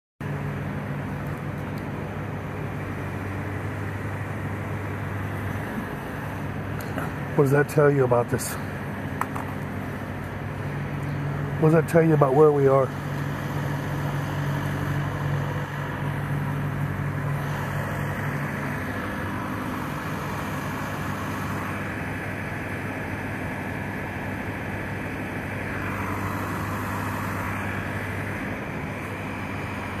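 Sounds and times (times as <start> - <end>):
diesel truck engines idling: 0.2 - 30.0.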